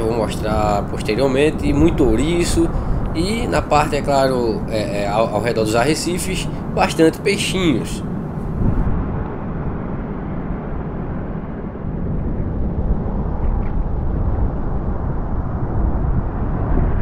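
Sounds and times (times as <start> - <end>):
surf rumble: 0.0 - 17.0
wind buffeting microphone: 0.0 - 17.0.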